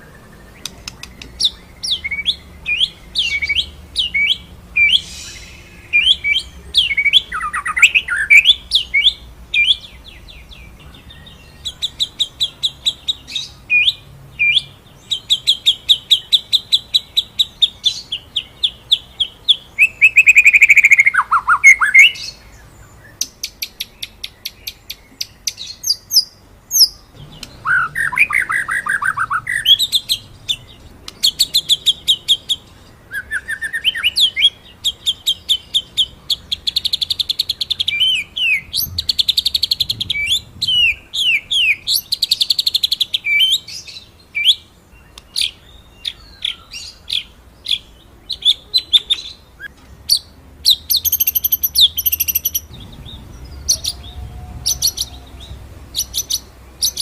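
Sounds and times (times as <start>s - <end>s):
bird singing fast trills: 0.0s - 57.0s.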